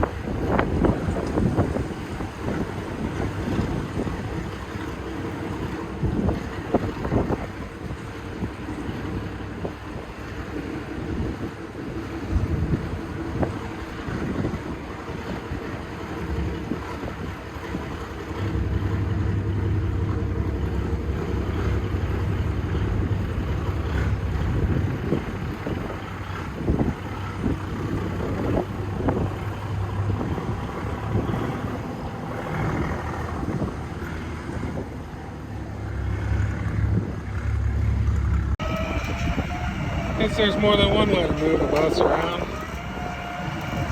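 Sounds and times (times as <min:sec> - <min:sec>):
heavy vehicle engine drone: 0:00.0 - 0:43.9
wind on microphone: 0:00.0 - 0:43.9.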